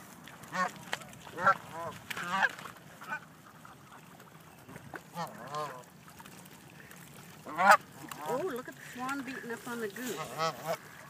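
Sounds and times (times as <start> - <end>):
geese honking: 0.4 - 4.4, 5.0 - 5.9, 6.7 - 11.0.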